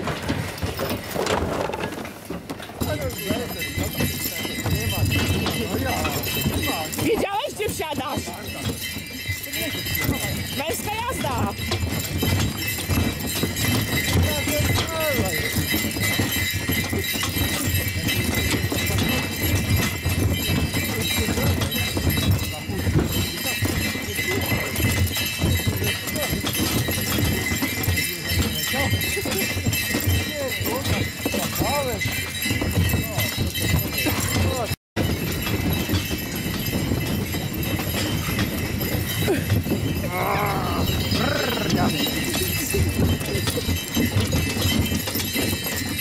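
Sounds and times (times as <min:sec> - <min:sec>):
horse hooves on snow: 0:00.0 - 0:46.0.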